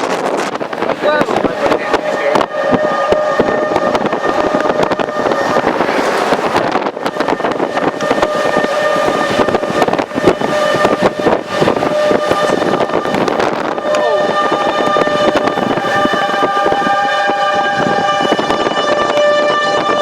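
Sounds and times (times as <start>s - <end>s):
wind buffeting microphone: 0.0s - 20.0s
warning siren steady tone: 0.1s - 20.0s.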